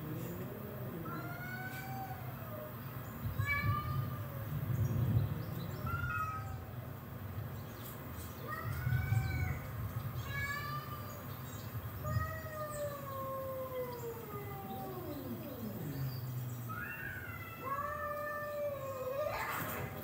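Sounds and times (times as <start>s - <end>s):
cats yowling: 0.0s - 6.8s, 8.4s - 11.2s, 12.0s - 20.0s.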